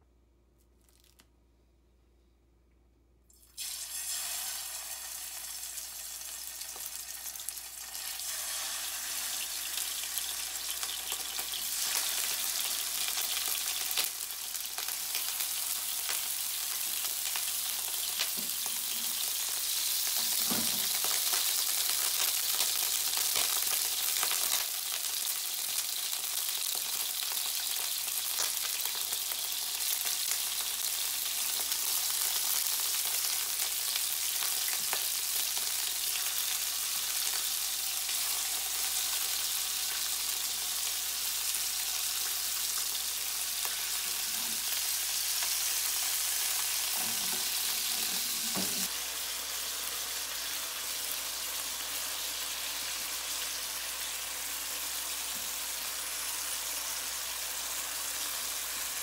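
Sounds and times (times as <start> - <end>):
meat sizzling in hot oil: 3.4 - 59.0.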